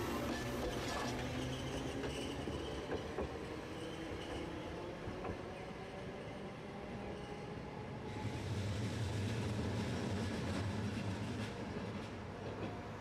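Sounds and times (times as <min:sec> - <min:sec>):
rail vehicle running by: 0:00.0 - 0:13.0.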